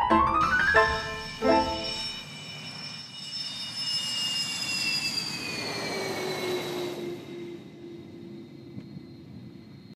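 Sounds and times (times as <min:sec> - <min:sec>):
jet engines roaring and whining: 0:00.6 - 0:09.9.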